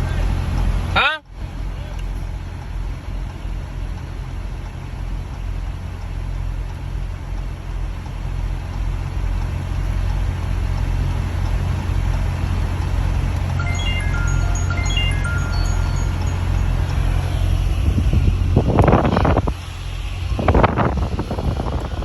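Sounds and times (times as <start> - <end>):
road and wind noise: 0.0 - 22.0
vehicle engine drone: 0.0 - 22.0.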